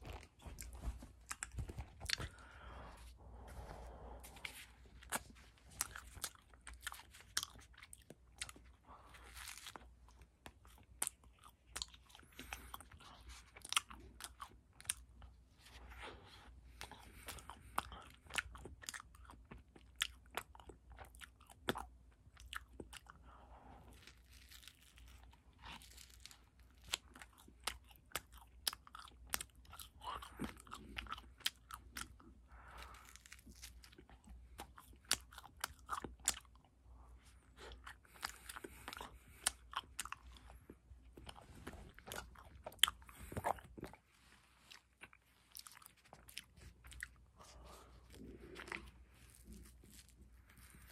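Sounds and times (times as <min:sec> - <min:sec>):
chewing and lip-smacking: 0:00.0 - 0:02.5, 0:04.4 - 0:50.9.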